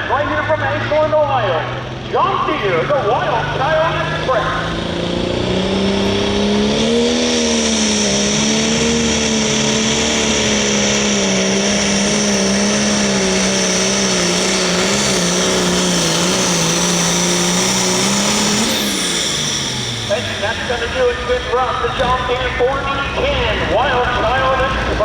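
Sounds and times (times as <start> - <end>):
tractor engine running hard: 0.0 - 25.0
high whine: 2.2 - 25.0.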